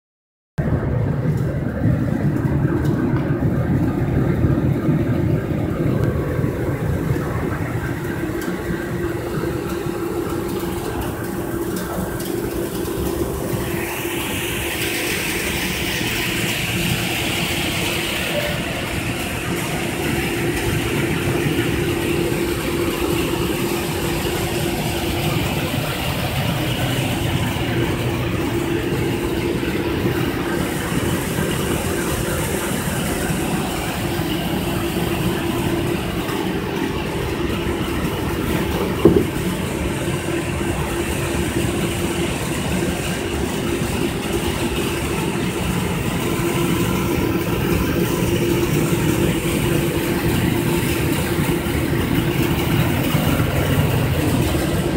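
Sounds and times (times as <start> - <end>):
seed-cleaning machine humming: 0.6 - 54.9.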